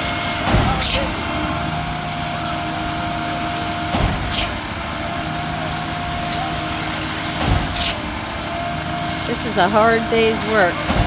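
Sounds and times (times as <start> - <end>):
concrete pump running: 0.0 - 11.0.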